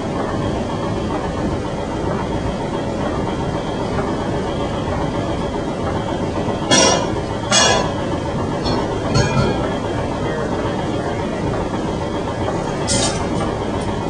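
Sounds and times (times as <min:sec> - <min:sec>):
sawmill machinery rumbling: 0:00.0 - 0:14.0.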